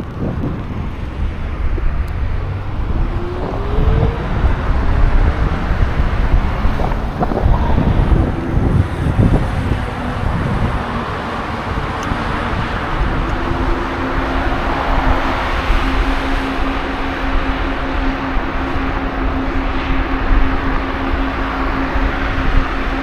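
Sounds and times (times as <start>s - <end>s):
motor traffic humming: 0.0s - 23.0s
wind buffeting microphone: 0.0s - 23.0s.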